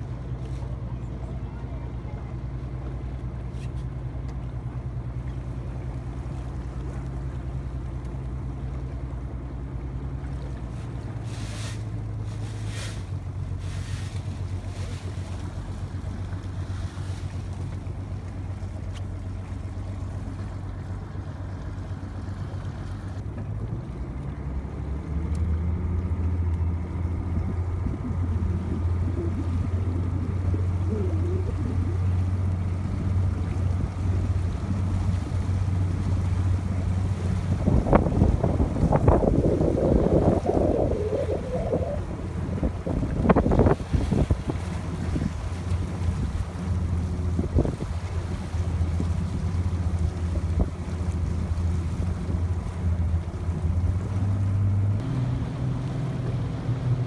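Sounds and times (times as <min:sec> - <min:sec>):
motorboat engine humming: 0:00.0 - 0:57.0
water washing: 0:00.0 - 0:57.0.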